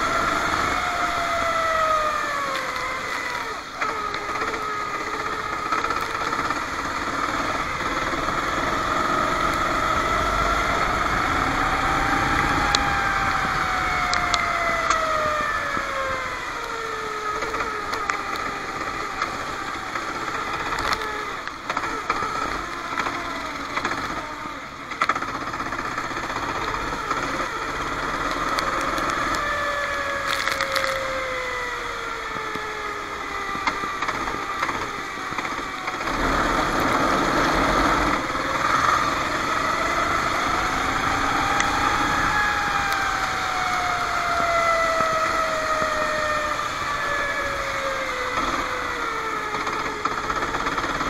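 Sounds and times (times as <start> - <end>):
kart engine accelerating: 0.0 - 51.0.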